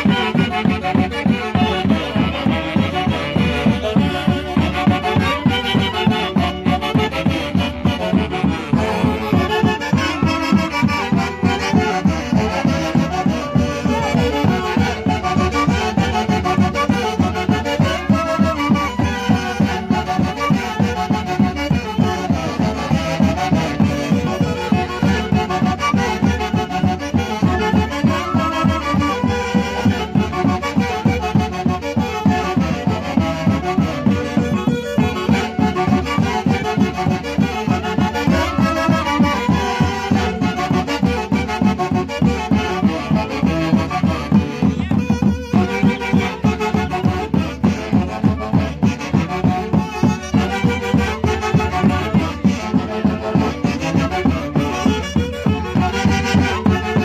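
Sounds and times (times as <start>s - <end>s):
bass drums and snare beat: 0.0s - 57.0s
brass band playing: 0.0s - 57.0s.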